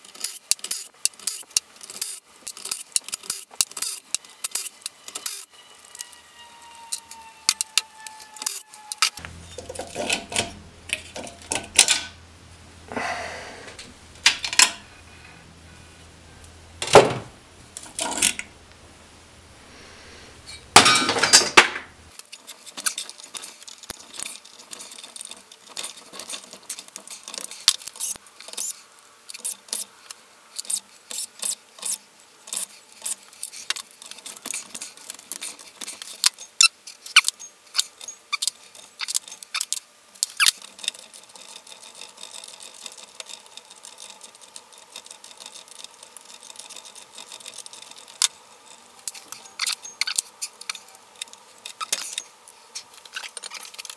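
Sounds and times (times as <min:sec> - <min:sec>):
small steel parts clinking: 0:00.0 - 0:12.2, 0:20.8 - 0:29.9, 0:30.5 - 0:53.9.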